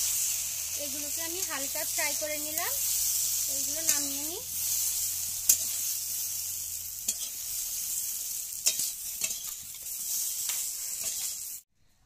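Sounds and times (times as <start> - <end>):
spatula scraping metal wok: 0.0 - 11.6
okra sizzling in hot oil: 0.0 - 11.7.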